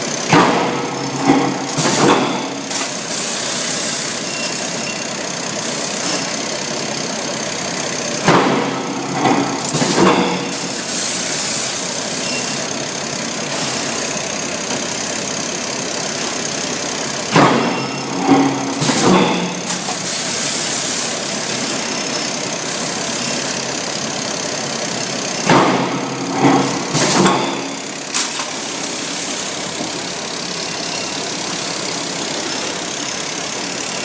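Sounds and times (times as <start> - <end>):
forging press machine hum: 0.0 - 34.0
heavy ringing press blows: 0.1 - 23.9, 25.0 - 34.0.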